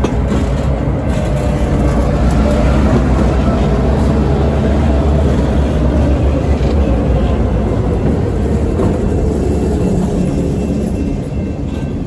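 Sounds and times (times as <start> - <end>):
diesel locomotive engines rumbling: 0.0 - 12.0
train wheels on rails: 0.0 - 12.0.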